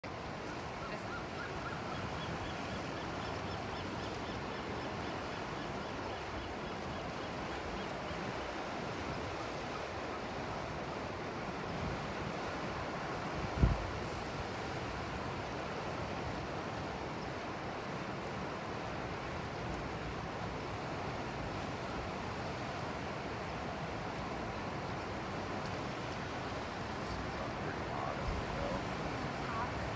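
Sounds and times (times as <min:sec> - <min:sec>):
ocean waves washing: 0:00.0 - 0:29.9
wind: 0:00.0 - 0:29.9.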